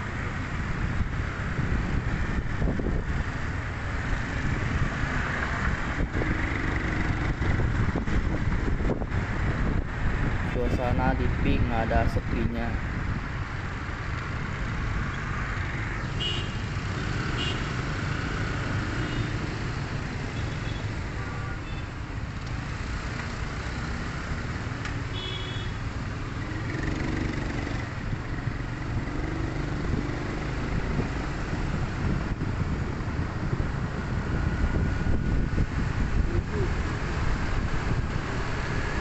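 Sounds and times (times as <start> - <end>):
traffic engines rumbling: 0.0 - 39.0.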